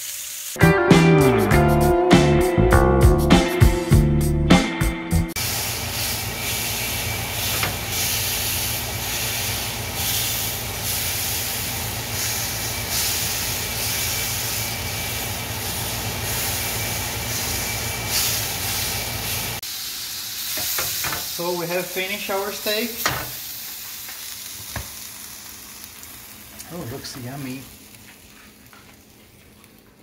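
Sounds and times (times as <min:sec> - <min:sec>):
steak sizzling in a grill pan: 0:00.0 - 0:00.6, 0:05.4 - 0:29.8.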